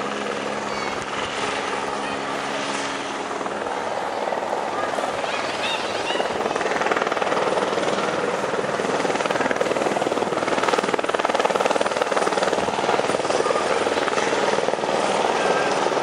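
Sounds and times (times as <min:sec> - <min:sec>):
helicopter rotor chop: 0:00.0 - 0:16.0
turbine engines rushing: 0:00.0 - 0:16.0.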